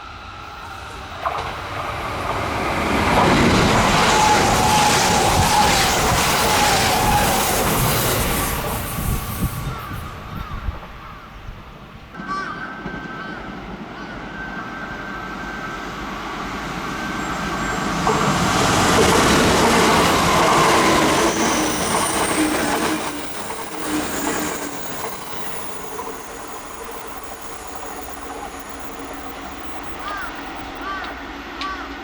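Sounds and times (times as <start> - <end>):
electric train passing: 0.0 - 32.0
wheels squealing: 0.3 - 10.6, 14.5 - 31.8.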